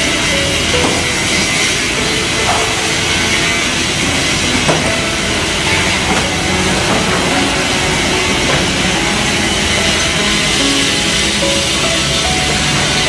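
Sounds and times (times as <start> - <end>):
boards knocking on rollers: 0.0 - 13.0
rip saw and conveyor running: 0.0 - 13.0.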